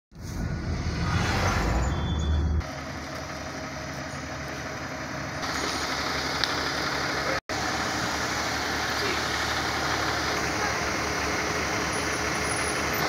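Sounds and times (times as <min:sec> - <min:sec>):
large vehicle engines idling: 0:00.2 - 0:13.0.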